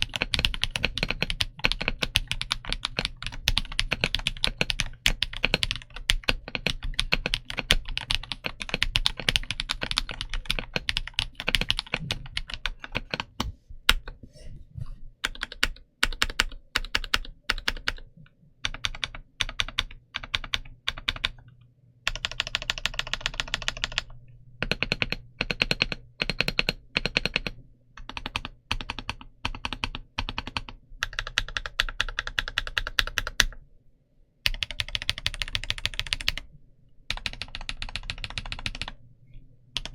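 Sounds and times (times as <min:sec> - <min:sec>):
mechanical keyboard typing: 0:00.0 - 0:14.1, 0:15.2 - 0:21.4, 0:22.1 - 0:33.6, 0:34.5 - 0:36.5, 0:37.1 - 0:39.0.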